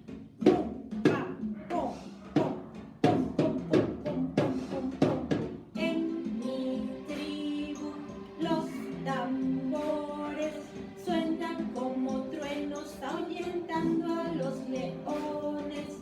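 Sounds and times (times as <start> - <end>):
backing music: 0.0 - 16.0
choir-like singing: 0.4 - 16.0.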